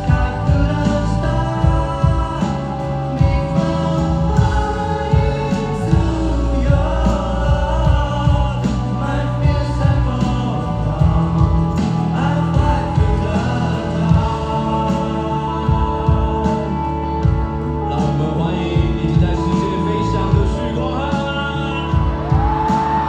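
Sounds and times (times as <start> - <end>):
drums: 0.0 - 23.0
live band playing: 0.0 - 23.0
person singing: 0.0 - 23.0.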